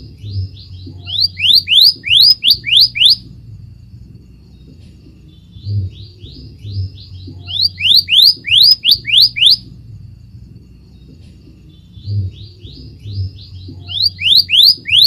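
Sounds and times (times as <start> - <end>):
bird singing whistled notes: 0.0 - 3.3, 4.4 - 9.8, 10.8 - 15.0.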